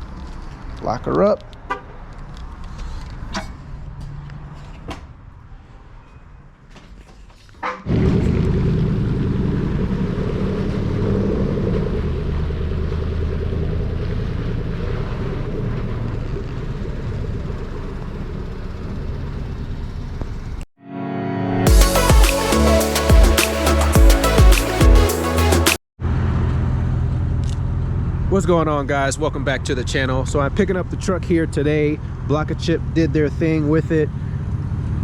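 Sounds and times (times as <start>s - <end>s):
vehicle engine rumbling: 0.0s - 20.7s, 21.7s - 35.0s.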